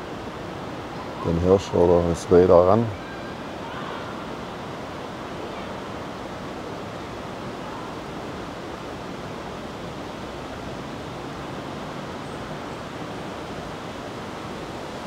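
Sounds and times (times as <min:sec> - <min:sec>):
steady outdoor rushing noise: 0:00.0 - 0:15.0.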